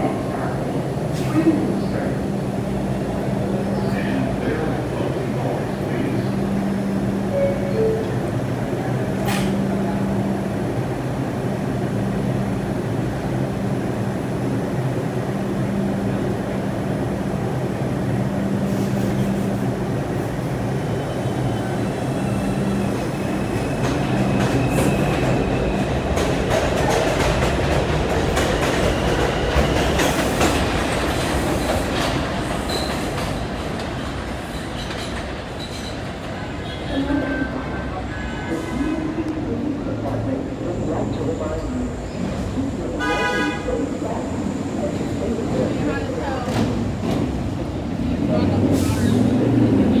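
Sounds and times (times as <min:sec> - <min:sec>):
subway train on rails: 0:00.0 - 0:50.0.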